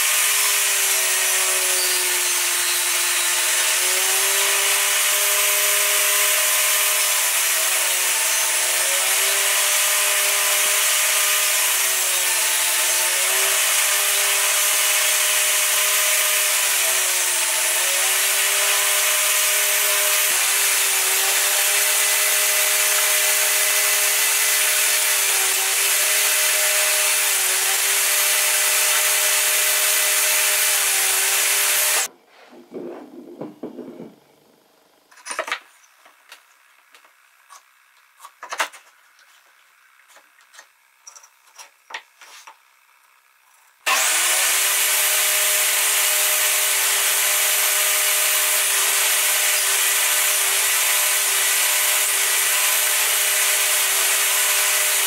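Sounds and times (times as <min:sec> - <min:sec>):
table saw cutting wood: 0:00.0 - 0:34.6, 0:43.8 - 0:55.0.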